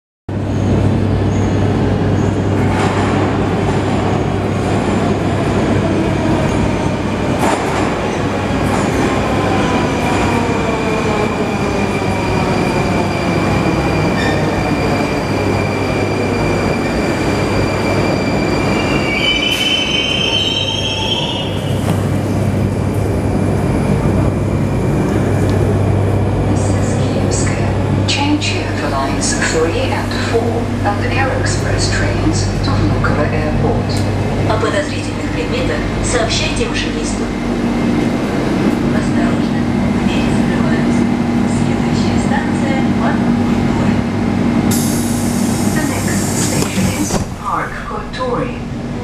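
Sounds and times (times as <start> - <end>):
train rolling noise: 0.3 - 49.0.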